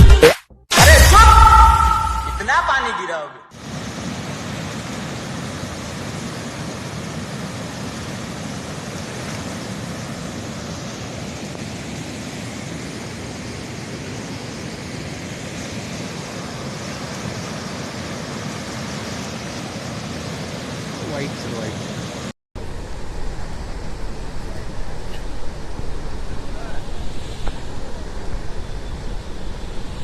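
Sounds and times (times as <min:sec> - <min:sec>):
floodwater rushing: 0:03.6 - 0:30.0.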